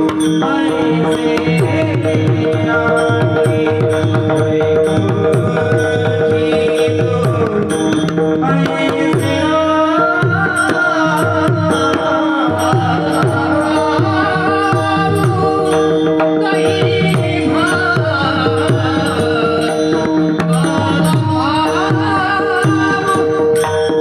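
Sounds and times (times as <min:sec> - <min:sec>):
wavering melody: 0:00.0 - 0:24.0.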